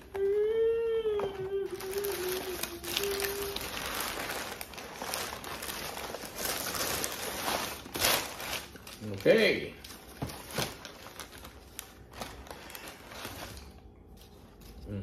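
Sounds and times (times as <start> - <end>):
steady hum: 0.0 - 15.0
tissue paper crinkling: 1.2 - 14.8.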